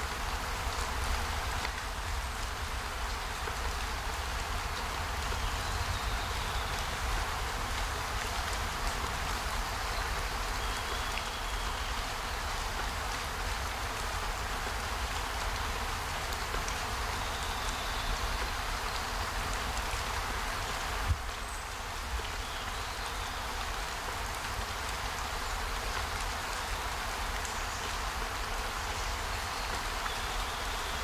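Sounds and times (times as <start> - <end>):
steady rainfall: 0.0 - 31.0.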